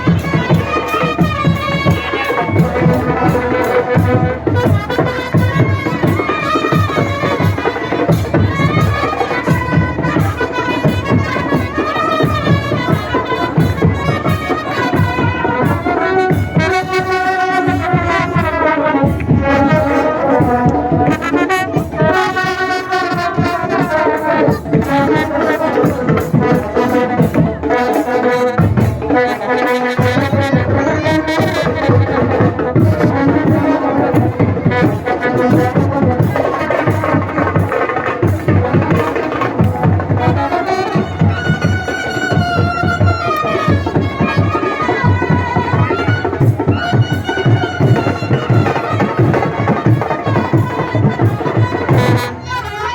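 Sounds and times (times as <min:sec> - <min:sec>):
brass band playing: 0:00.0 - 0:52.9
fast steady drumming: 0:00.0 - 0:52.9.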